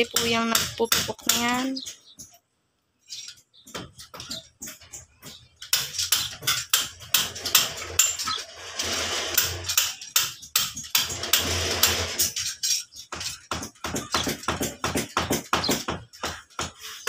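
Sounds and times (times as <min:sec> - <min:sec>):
hammer pounding metal: 0:00.0 - 0:01.7, 0:03.7 - 0:16.8.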